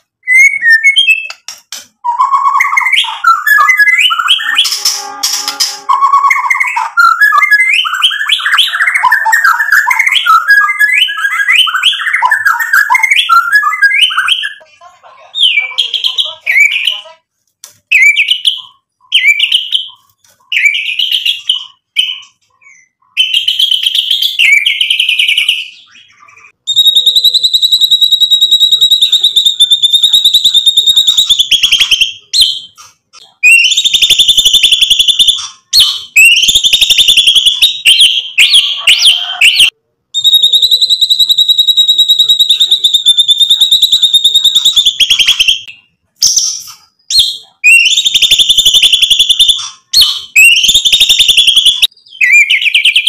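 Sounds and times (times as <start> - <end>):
bird singing: 0.1 - 14.7, 17.9 - 32.8, 33.4 - 53.0.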